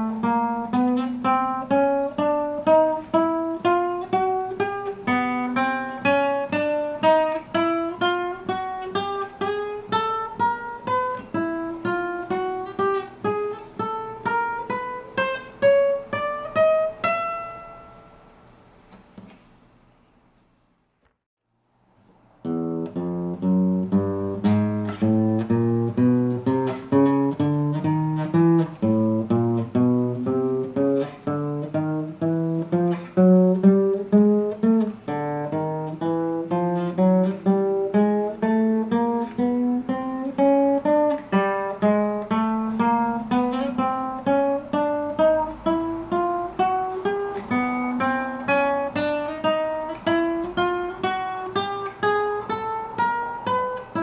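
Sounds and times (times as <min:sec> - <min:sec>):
acoustic guitar plucked notes: 0:00.0 - 0:19.5, 0:22.4 - 0:54.0.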